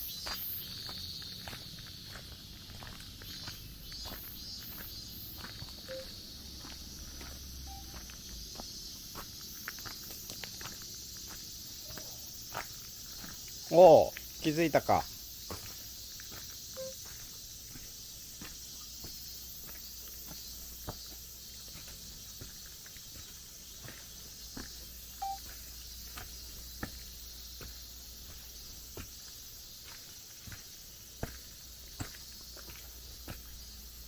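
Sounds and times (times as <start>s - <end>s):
footsteps on forest trail: 0.0s - 34.0s
steady high hiss: 3.4s - 34.0s.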